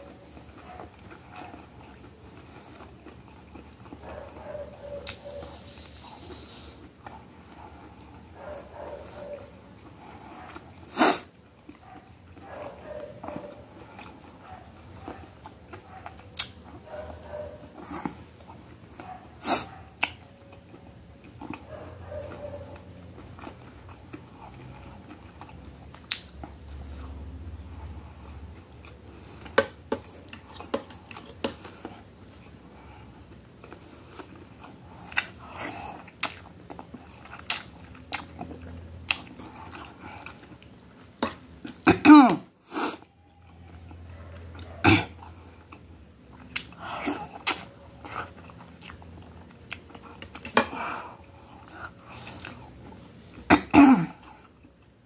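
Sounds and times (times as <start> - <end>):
chewing and biting: 0.0 - 41.9, 43.2 - 53.5.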